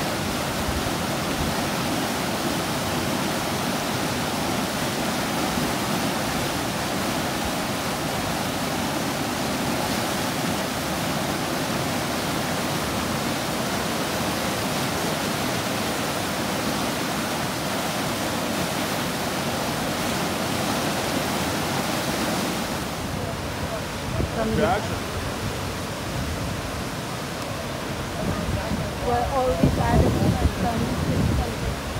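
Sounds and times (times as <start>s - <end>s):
river rapid rushing: 0.0s - 31.9s.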